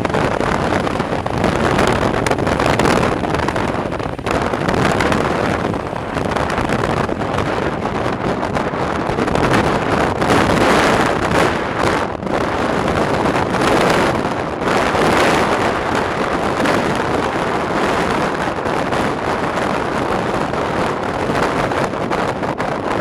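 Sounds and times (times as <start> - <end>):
train running noise: 0.0 - 23.0
wind buffeting microphone: 0.0 - 23.0.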